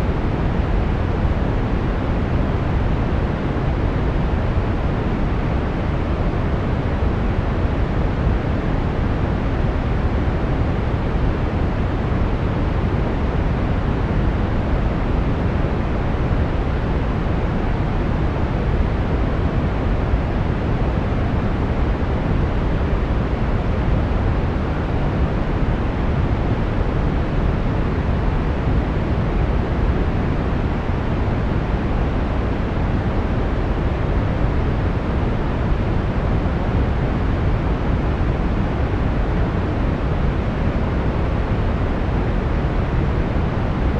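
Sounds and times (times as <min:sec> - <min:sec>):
steady brown noise rumble: 0:00.0 - 0:43.9.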